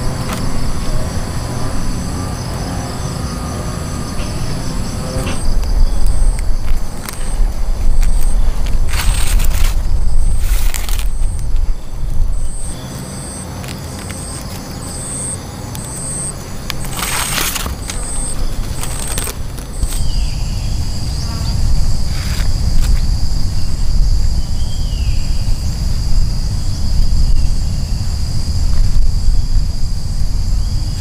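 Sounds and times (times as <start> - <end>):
high-pitched insect drone: 0.0 - 31.0
insect high chirp: 0.0 - 31.0
low rumble: 0.0 - 31.0
rustle: 4.1 - 31.0.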